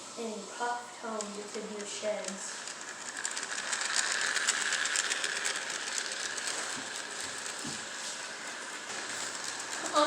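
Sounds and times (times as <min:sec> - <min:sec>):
toy train motor whirring: 0:00.2 - 0:10.0.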